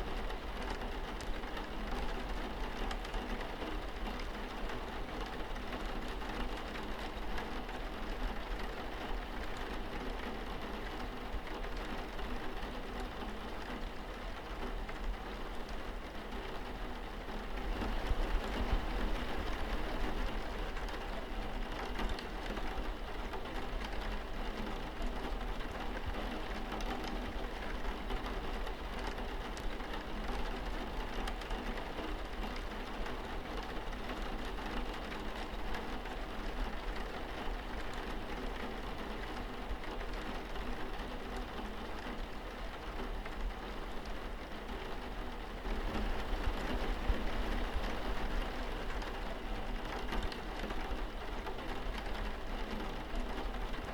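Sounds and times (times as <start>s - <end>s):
rain on a window pane: 0.0s - 53.9s.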